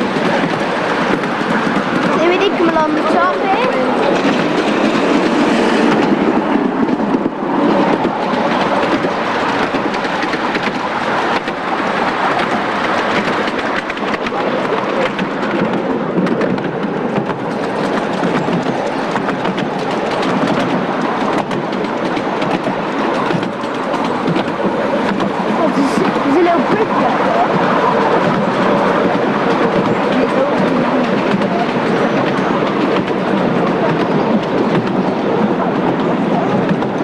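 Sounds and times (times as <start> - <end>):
small wheels rumbling on rails: 0.0 - 37.0.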